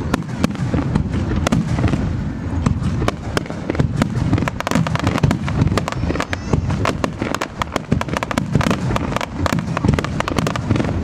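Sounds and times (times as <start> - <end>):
firework shells bursting: 0.0 - 11.0
low rumble of booms: 0.0 - 11.0.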